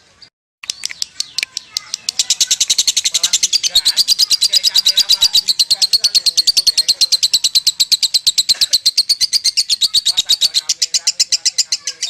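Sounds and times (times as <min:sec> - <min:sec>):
lovebird shrill chatter: 0:00.6 - 0:12.0.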